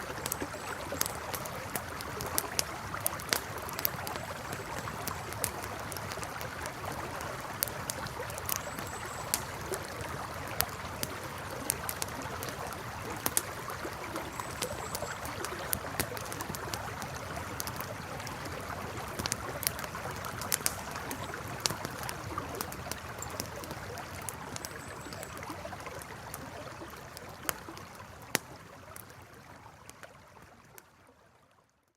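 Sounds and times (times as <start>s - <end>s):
campfire crackling: 0.0s - 30.8s
river flowing: 0.0s - 31.0s.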